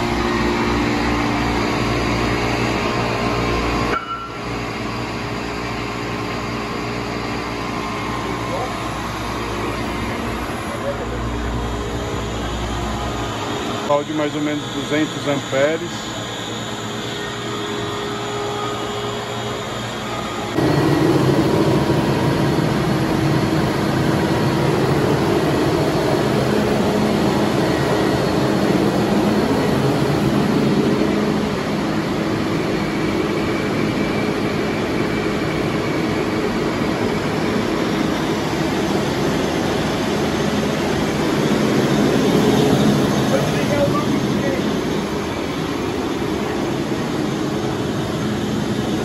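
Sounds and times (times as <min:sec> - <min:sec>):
machinery drone: 0:00.0 - 0:49.0.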